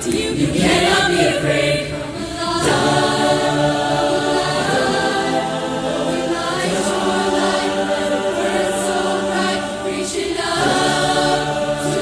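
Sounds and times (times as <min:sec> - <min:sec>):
barbershop chorus singing a cappella: 0:00.0 - 0:12.0.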